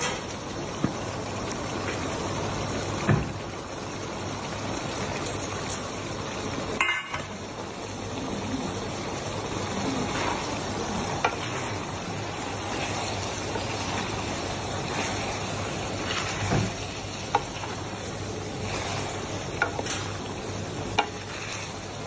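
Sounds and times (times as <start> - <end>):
sauce simmering and bubbling: 0.0 - 22.0.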